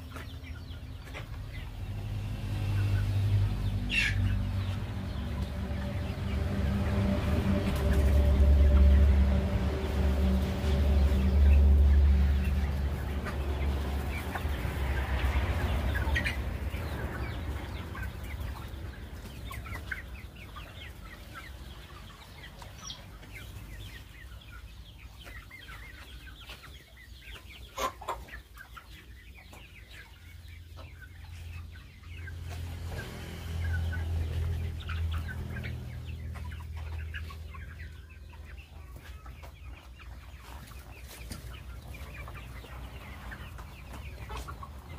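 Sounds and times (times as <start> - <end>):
chickens clucking and calling: 0.0 - 44.9.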